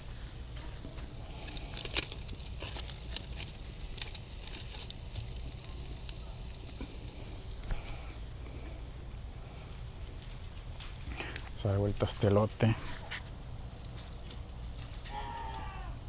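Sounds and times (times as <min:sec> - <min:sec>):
fat crackling on embers: 0:00.0 - 0:16.0.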